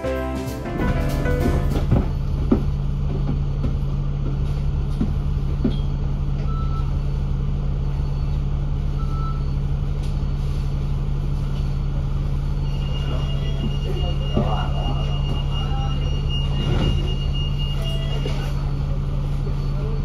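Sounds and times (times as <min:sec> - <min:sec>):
bus engine hum: 0:00.0 - 0:20.0.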